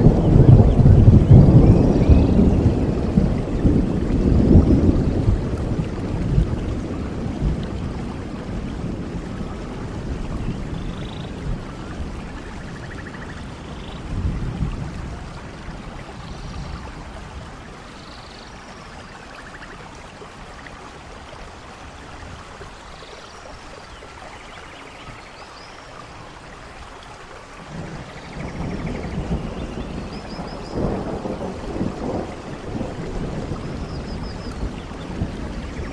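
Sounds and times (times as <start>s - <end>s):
low thunder rumbles: 0.0s - 21.2s, 27.6s - 35.9s
steady rainfall: 0.0s - 35.9s.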